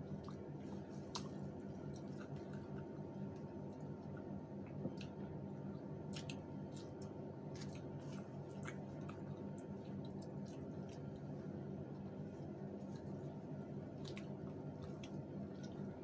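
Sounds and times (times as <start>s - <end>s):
wet chewing and lip-smacking: 0.1s - 16.0s.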